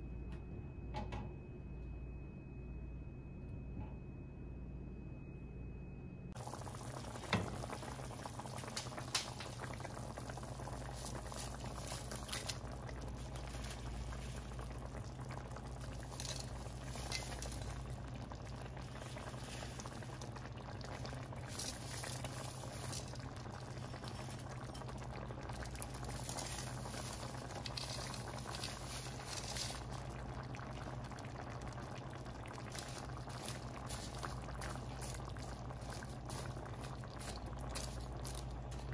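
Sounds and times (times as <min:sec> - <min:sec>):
broth bubbling in a pot: 0:06.3 - 0:38.9.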